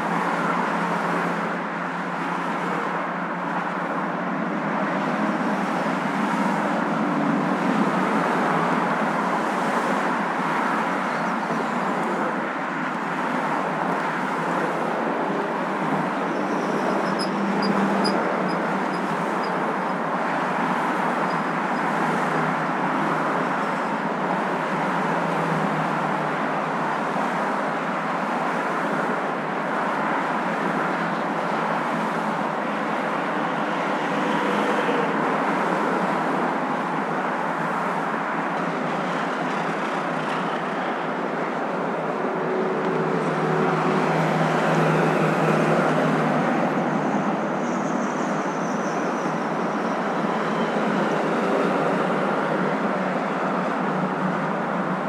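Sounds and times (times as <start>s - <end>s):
moving car road and engine noise: 0.0s - 55.0s.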